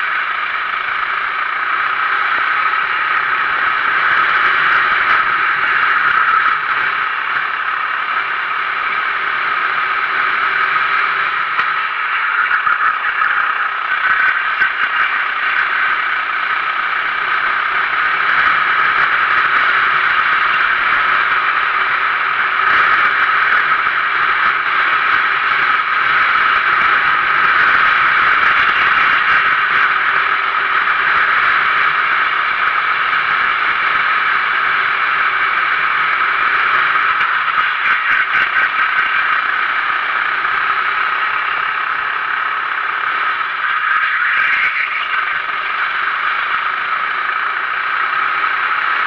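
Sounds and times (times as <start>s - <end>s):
kart engine at race speed: 0.0s - 49.0s.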